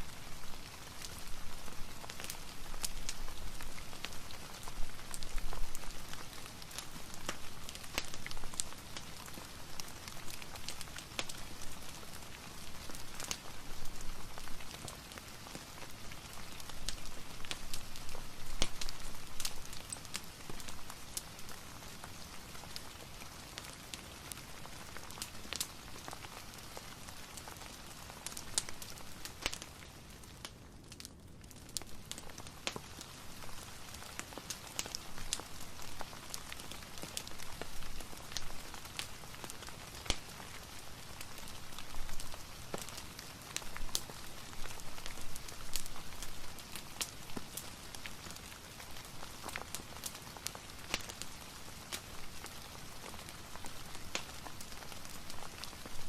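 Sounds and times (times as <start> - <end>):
rain hiss: 0.0 - 30.4, 31.9 - 56.0
fireplace crackling and popping: 0.0 - 56.0.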